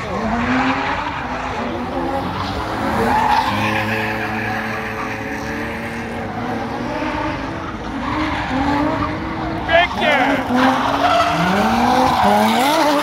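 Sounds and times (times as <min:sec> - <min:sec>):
car engines revving high: 0:00.0 - 0:13.0.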